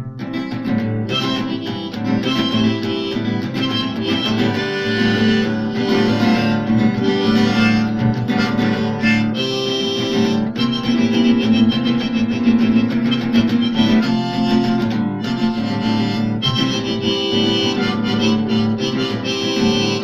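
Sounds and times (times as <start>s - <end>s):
guitar accompaniment: 0.0s - 20.0s
harmonica solo: 0.0s - 20.0s.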